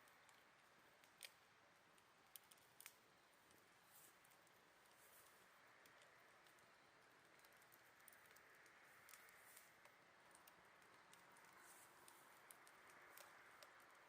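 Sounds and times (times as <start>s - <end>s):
campfire wood crackling: 0.0s - 14.0s.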